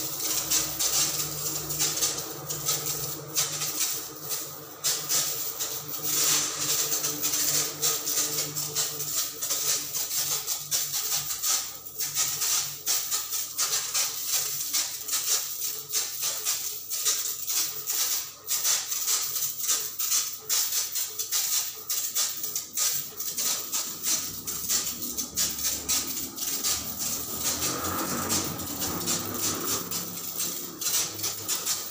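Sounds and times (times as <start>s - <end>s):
sprayer hissing: 0.0s - 31.9s.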